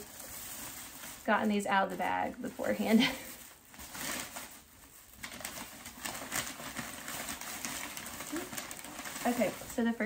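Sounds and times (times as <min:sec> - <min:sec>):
shopping bag rustling and crinkling: 0:00.0 - 0:10.0.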